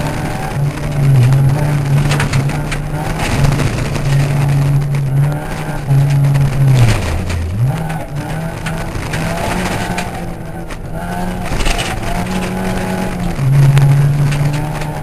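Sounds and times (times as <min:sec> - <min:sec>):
gravel rattling under car: 0:00.0 - 0:15.0
rally car engine revving: 0:00.0 - 0:15.0.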